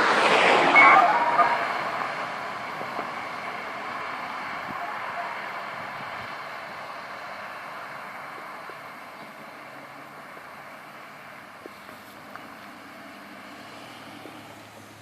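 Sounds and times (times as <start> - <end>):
outdoor background noise: 0.0 - 15.0
distant public-address voice: 0.4 - 12.9.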